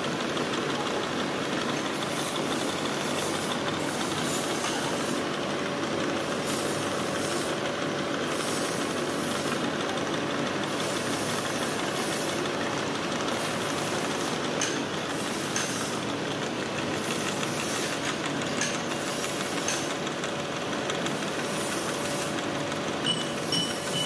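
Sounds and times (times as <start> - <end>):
milling machine cutting metal: 0.1 - 24.0.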